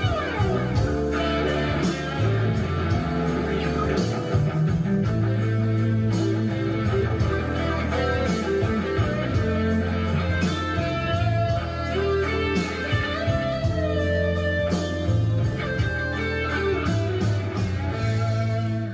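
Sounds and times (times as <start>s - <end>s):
guitar-led rock music: 0.0s - 18.9s.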